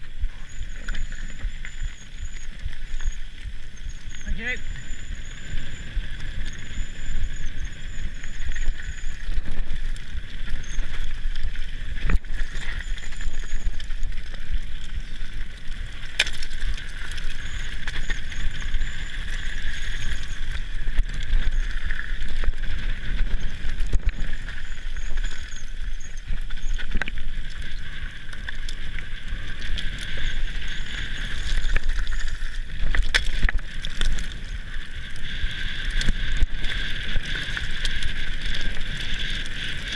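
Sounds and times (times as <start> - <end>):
bike rattling: 0.0 - 39.9
bike tyres crunching on stones: 0.0 - 39.9.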